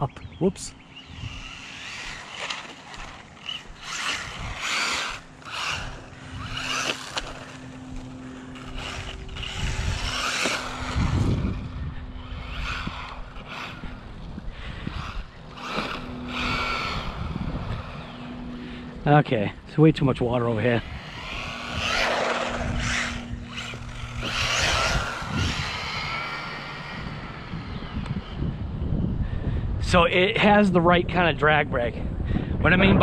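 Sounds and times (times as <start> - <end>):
steady low hum: 0.0 - 33.0
rc truck motor and tire rush: 0.5 - 31.4.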